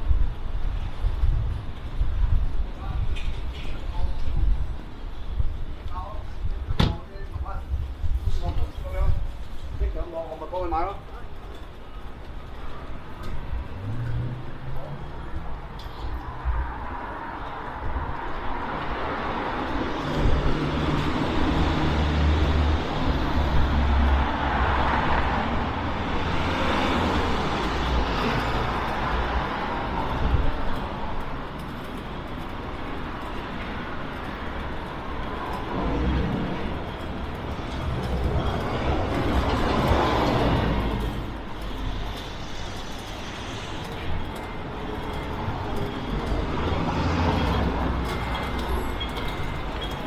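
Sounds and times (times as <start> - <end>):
tyre and street noise: 0.0 - 50.0
vehicle engines rumbling: 0.0 - 50.0.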